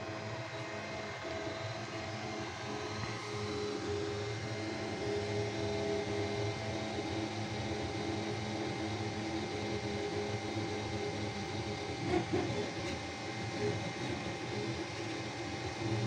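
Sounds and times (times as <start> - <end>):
cooling fans whirring: 0.0 - 16.0.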